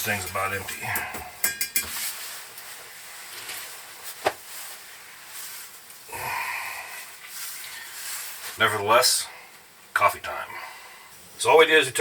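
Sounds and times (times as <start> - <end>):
gas stove burning hiss: 0.0 - 12.0.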